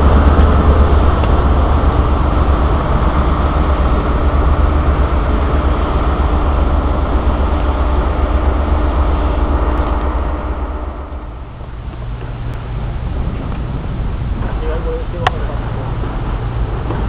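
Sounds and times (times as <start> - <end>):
diesel train rumbling: 0.0 - 17.0.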